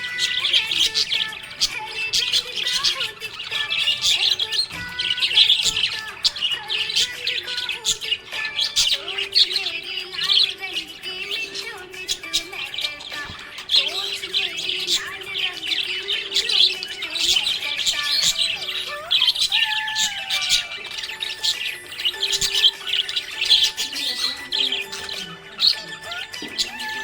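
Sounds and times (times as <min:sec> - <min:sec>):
budgerigars chirping and warbling: 0:00.0 - 0:27.0.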